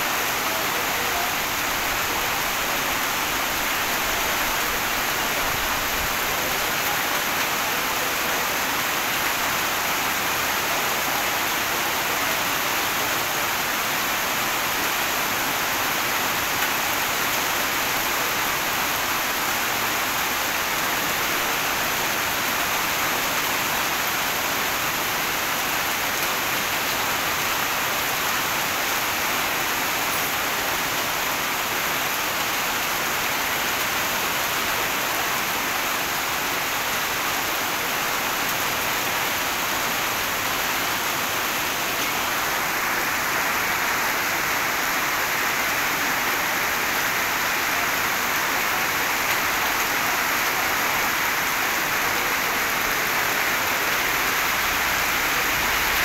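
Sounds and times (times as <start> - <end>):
heavy rain on wet pavement: 0.0 - 56.0.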